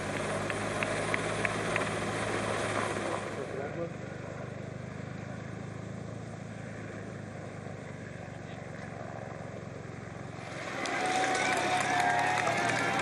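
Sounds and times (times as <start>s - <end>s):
low pulsing engine drone: 0.0s - 13.0s.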